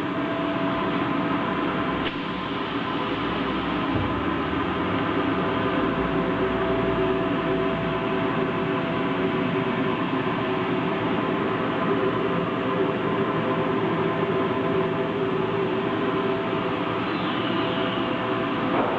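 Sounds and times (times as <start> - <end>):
steady machine hum: 0.0 - 18.9.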